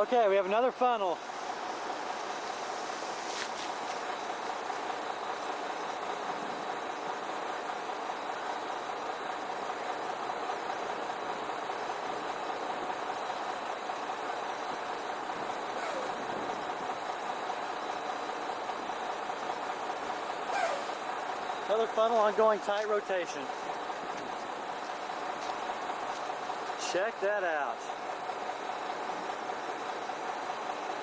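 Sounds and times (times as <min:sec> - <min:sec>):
outdoor noise: 0:00.0 - 0:31.0.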